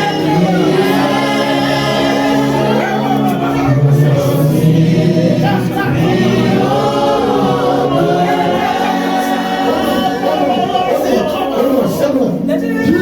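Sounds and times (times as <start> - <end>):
church choir singing a hymn: 0.0 - 13.0.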